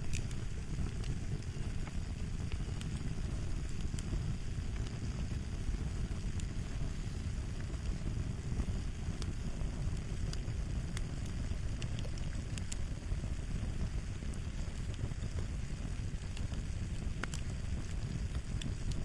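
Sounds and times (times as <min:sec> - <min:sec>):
fire burning rumble: 0:00.0 - 0:19.0
fire pops and crackles: 0:00.0 - 0:19.0.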